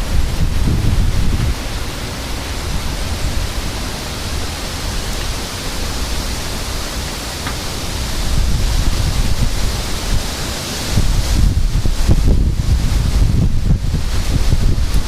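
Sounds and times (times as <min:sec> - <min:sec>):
wind and rain rushing: 0:00.0 - 0:15.0
wind buffeting microphone: 0:00.0 - 0:15.0.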